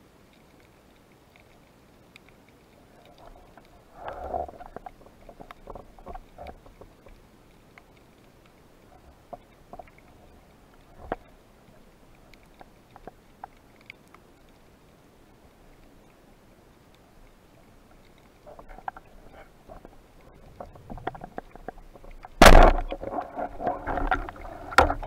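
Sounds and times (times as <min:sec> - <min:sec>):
low steady hiss: 0:00.0 - 0:25.0
underwater clicks and ticks: 0:00.1 - 0:25.0.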